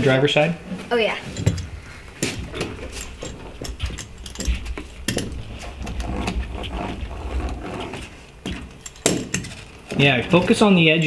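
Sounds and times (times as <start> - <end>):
hand roller clicking and scraping: 1.3 - 10.7.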